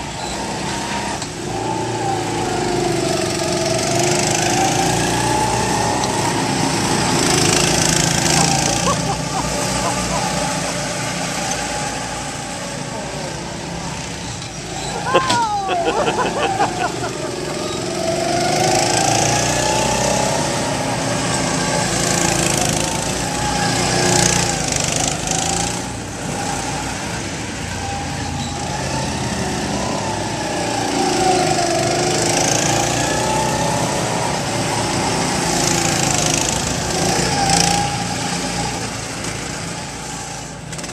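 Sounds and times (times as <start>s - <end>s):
go-kart engines running: 0.0s - 40.9s.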